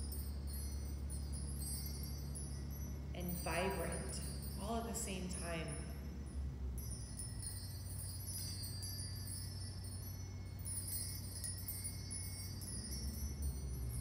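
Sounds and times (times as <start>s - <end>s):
low hum: 0.0s - 14.0s
metal chimes tinkling: 0.0s - 14.0s.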